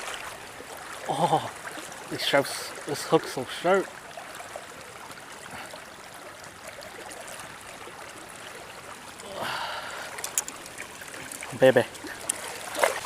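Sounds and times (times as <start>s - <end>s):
river water trickling: 0.0s - 13.0s.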